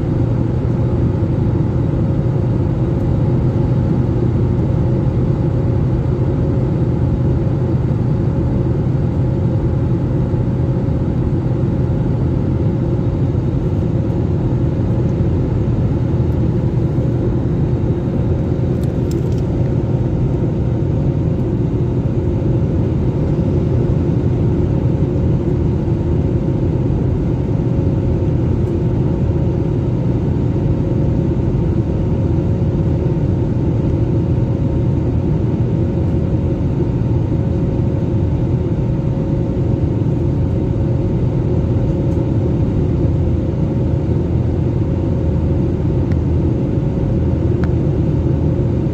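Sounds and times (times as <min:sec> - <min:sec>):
airliner cabin engine drone: 0:00.0 - 0:48.9.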